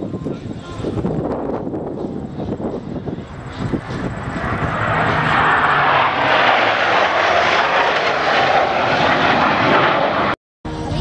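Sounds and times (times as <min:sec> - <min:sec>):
fighter jets flying past: 0:00.0 - 0:11.0.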